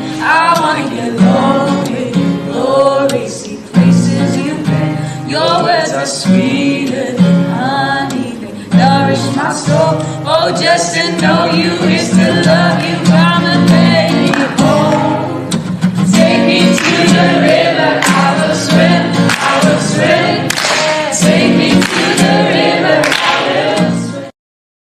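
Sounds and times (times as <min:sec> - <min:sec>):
group singing gospel worship song: 0:00.0 - 0:24.3.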